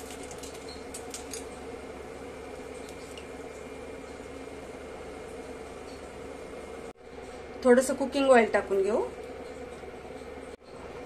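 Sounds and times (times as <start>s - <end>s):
low steady hum: 0.0s - 11.0s
water boiling and bubbling: 0.0s - 11.0s.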